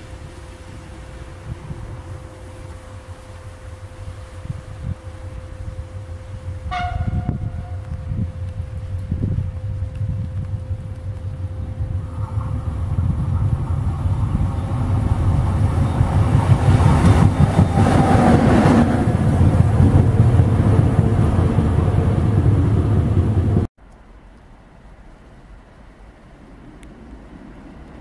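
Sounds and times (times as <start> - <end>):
train passing at speed: 0.0 - 23.7, 24.6 - 28.0.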